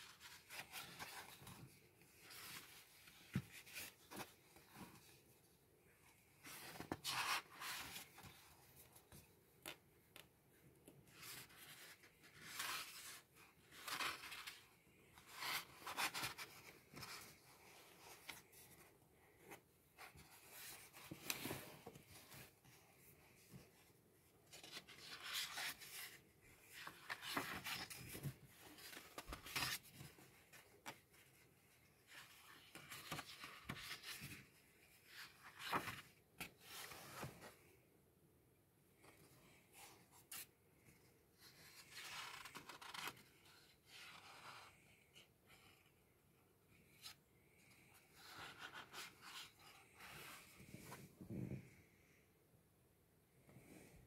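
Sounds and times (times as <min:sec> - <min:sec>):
book pages rustling: 0:00.0 - 0:05.4, 0:06.4 - 0:37.7, 0:41.4 - 0:45.8, 0:46.8 - 0:51.7.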